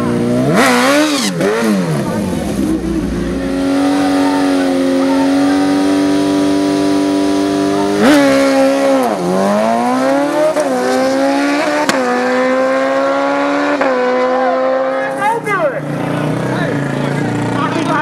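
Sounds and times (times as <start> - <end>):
race engine at high revs: 0.0 - 18.0.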